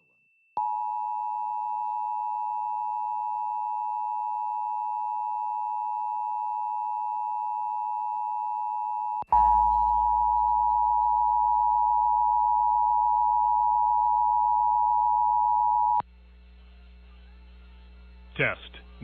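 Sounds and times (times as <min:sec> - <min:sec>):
dual-tone alert signal: 0:00.6 - 0:16.0.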